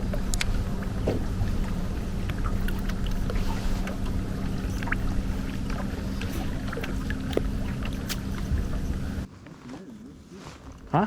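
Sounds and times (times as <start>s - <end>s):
boat motor running: 0.0s - 9.3s
wind and water rumble: 0.0s - 11.0s.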